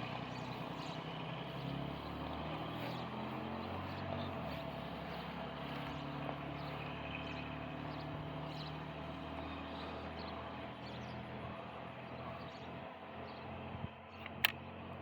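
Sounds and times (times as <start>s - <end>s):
constant background noise: 0.0s - 15.0s
engine running with low hum: 0.0s - 15.0s.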